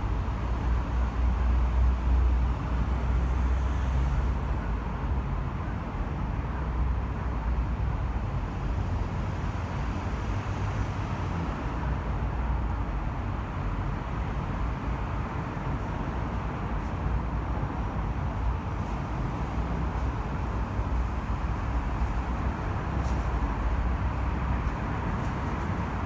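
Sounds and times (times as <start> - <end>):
expressway traffic rumble: 0.0 - 26.0.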